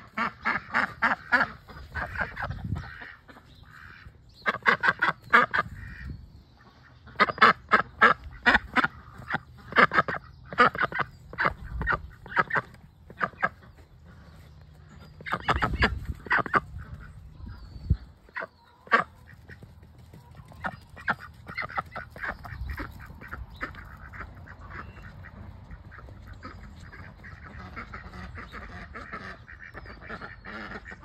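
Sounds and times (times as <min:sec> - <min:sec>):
ducks quacking: 0:00.0 - 0:31.0.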